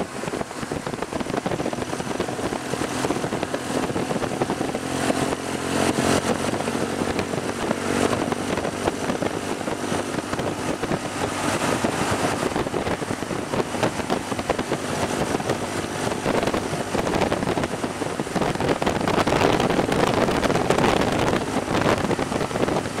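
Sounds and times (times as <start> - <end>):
motorcycle engine running: 0.0 - 23.0
wind noise on microphone: 0.0 - 23.0.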